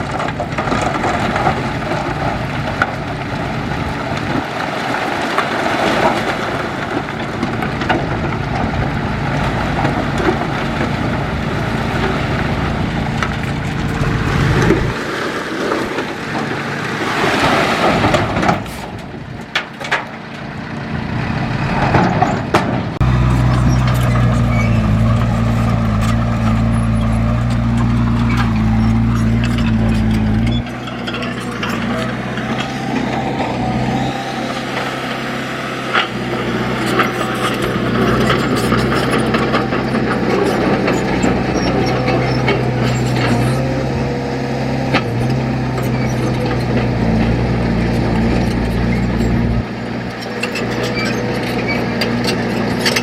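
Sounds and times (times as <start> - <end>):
heavy machinery engines running: 0.0 - 53.0.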